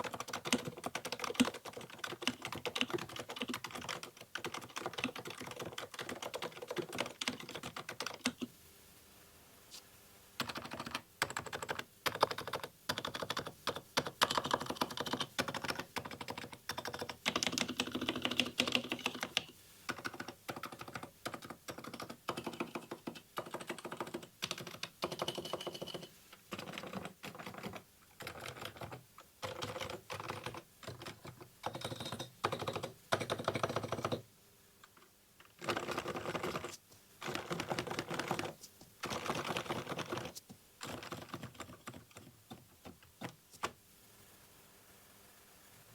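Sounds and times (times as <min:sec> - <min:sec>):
keyboard typing: 0:00.0 - 0:08.5, 0:10.4 - 0:34.2, 0:34.9 - 0:43.8.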